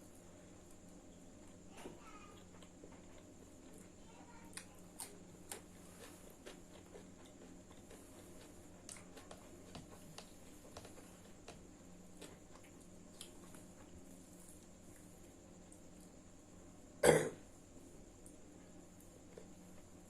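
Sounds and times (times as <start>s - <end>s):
faint steady hum: 0.0s - 20.0s
soft eating clicks and smacks: 0.1s - 16.5s, 17.8s - 20.0s.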